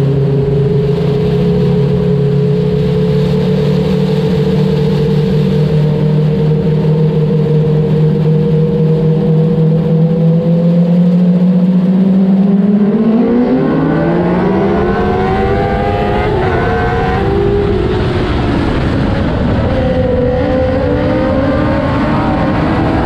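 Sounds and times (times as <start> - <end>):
race car engine revving: 0.0 - 23.0
road and chassis noise: 0.0 - 23.0.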